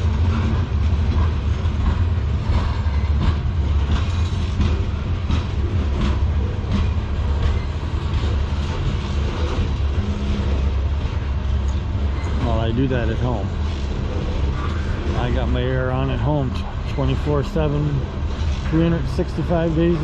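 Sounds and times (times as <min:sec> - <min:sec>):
freight train rumbling: 0:00.0 - 0:20.0
wheels clicking over rail joints: 0:00.0 - 0:20.0.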